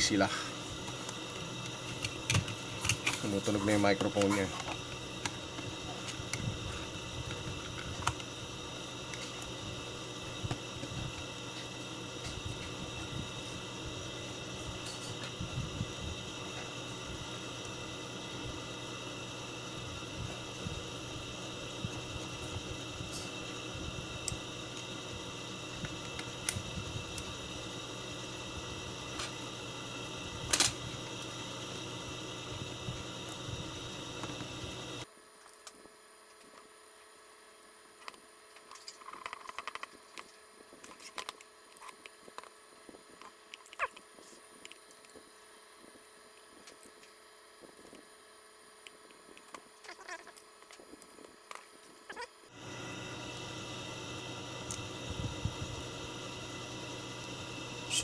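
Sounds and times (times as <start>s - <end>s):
background hum and hiss: 0.0s - 58.0s.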